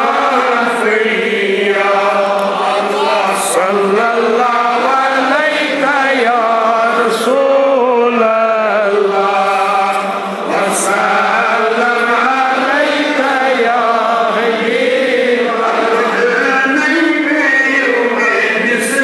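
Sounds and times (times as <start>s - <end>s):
person chanting melodic recitation: 0.0s - 19.0s.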